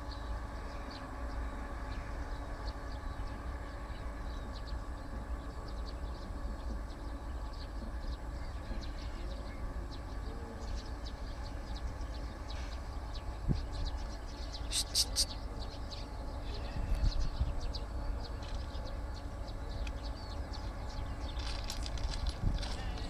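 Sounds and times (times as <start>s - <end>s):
birds chirping: 0.0s - 23.0s
steady low rumble: 0.0s - 23.0s.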